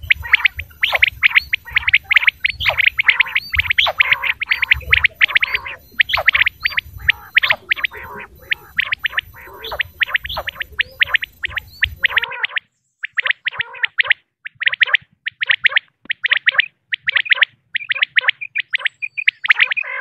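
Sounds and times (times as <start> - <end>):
quail chirping calls: 0.0 - 20.0.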